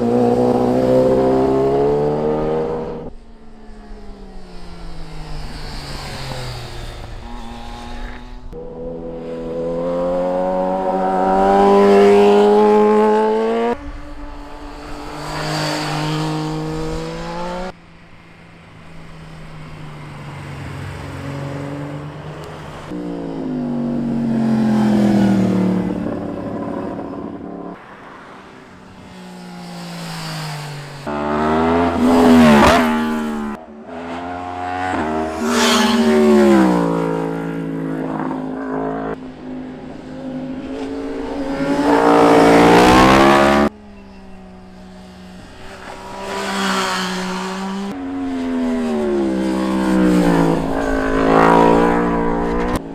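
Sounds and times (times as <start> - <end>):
motorcycles passing at speed: 0.0 - 52.9.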